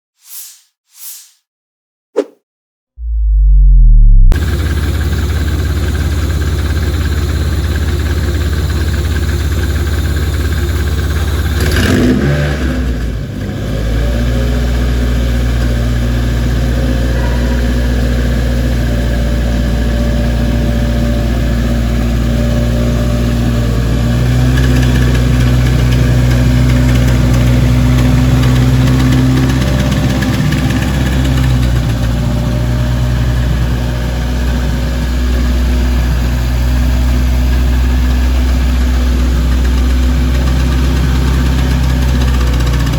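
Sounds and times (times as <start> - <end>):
engine running and revving: 3.0 - 42.9.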